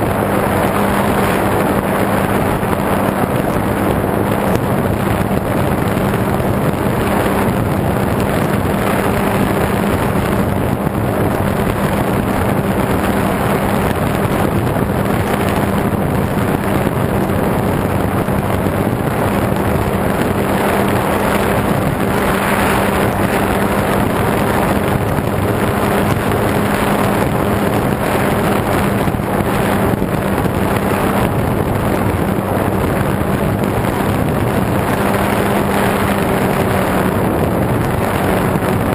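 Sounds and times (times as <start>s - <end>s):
model airplane motor and propeller: 0.0s - 38.9s
wind rush over microphone: 0.0s - 38.9s.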